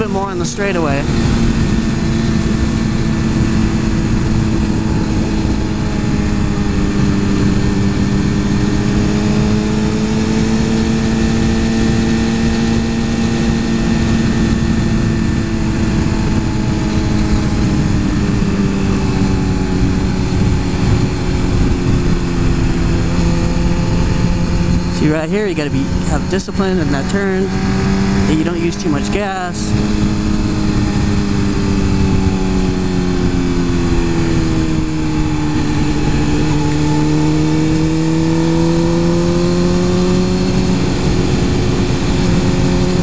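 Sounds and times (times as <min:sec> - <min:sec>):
motorcycle engine at high revs: 0:00.0 - 0:43.0
wind noise: 0:00.0 - 0:43.0.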